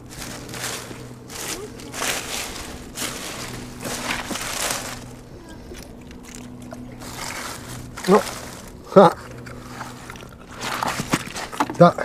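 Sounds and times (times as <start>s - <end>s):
faint low hum: 0.0s - 12.0s
water splashing: 0.0s - 12.0s
wet seaweed rustling: 0.0s - 12.0s.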